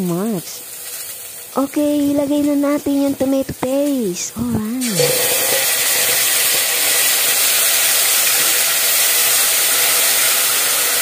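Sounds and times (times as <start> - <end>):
tomato paste sizzling in oil: 0.0 - 11.0.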